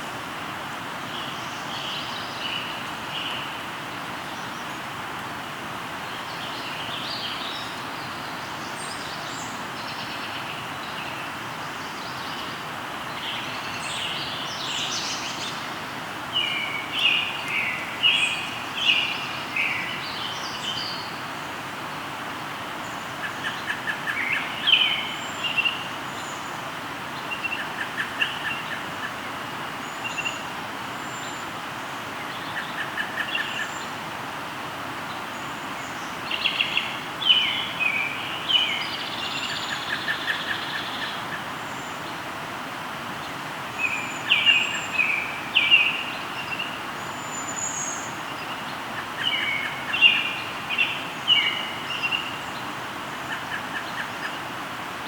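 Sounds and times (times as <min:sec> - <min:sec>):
river rushing: 0:00.0 - 0:55.0
songbirds singing: 0:00.0 - 0:55.0.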